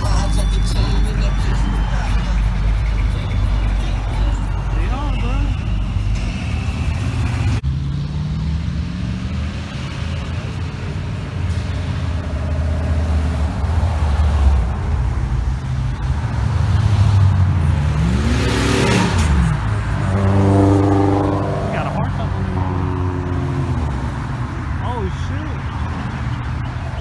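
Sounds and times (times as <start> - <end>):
car engine revving: 0.0 - 27.0
car engines running: 0.0 - 27.0.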